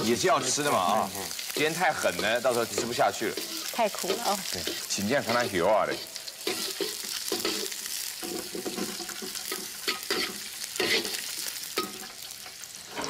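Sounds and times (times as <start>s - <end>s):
ginger sizzling in hot oil: 0.0s - 13.0s
spatula scraping wok: 0.0s - 13.0s.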